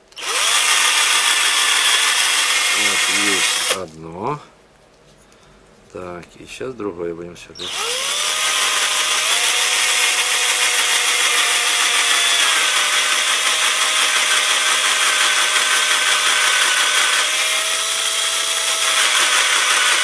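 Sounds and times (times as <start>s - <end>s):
cordless drill whining: 0.2s - 3.9s, 7.6s - 20.0s.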